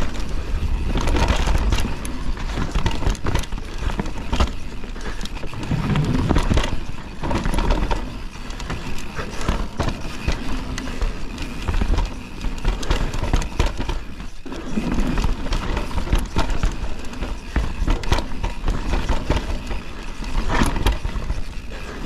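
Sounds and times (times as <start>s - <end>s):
bike rattling: 0.0s - 22.0s
tyres over dirt and stones: 0.0s - 22.0s.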